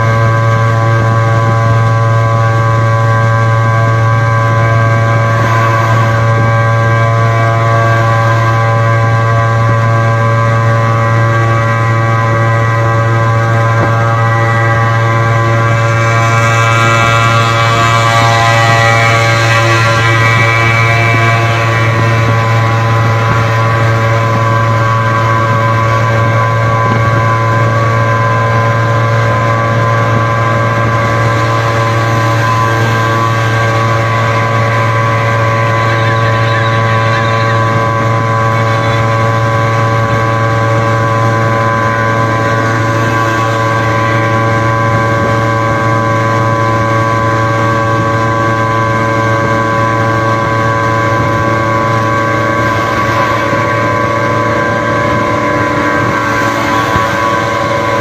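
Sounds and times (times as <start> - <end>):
two-stroke engines at high revs: 0.0 - 58.0.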